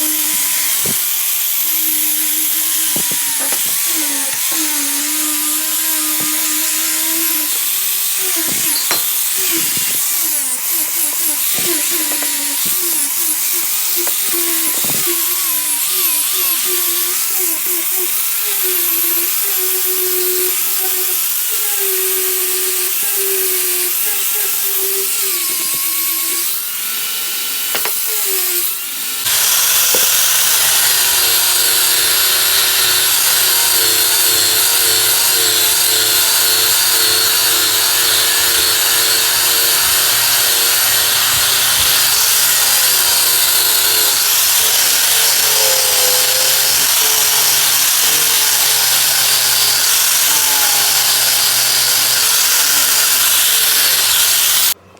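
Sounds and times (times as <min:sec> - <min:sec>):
power grinder grinding metal: 0:00.0 - 0:54.8.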